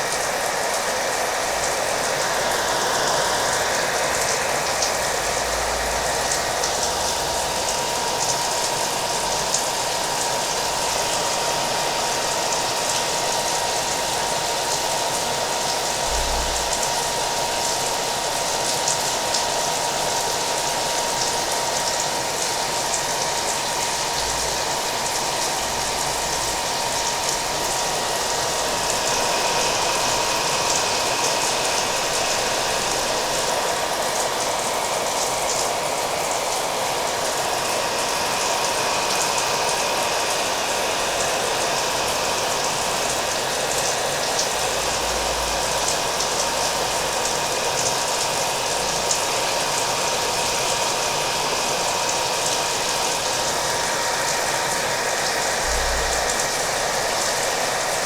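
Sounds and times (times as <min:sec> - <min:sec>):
hair dryer running: 0:00.0 - 0:58.0
steady rain: 0:00.0 - 0:58.0.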